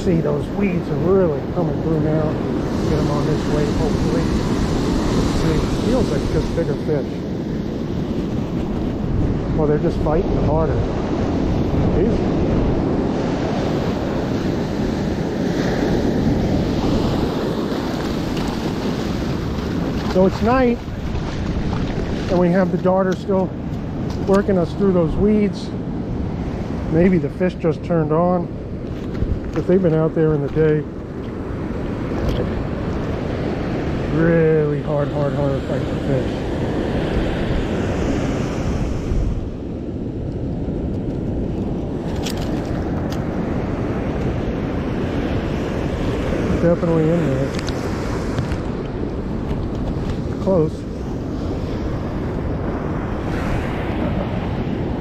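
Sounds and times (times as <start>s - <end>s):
ocean surf washing up beach: 0.0s - 55.0s
wind rumbling on microphone: 0.0s - 55.0s.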